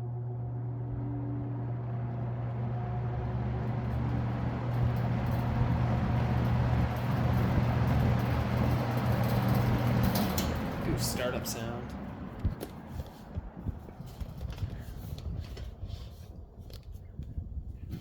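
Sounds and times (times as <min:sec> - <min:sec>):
fan motor humming: 0:00.0 - 0:16.8.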